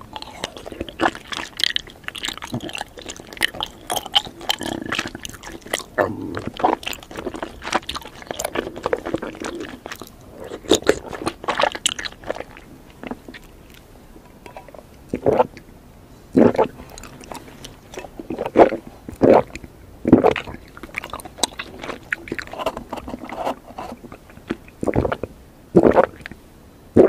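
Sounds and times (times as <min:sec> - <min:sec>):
wet chewing mouth clicks: 0:00.0 - 0:13.9, 0:16.4 - 0:26.4.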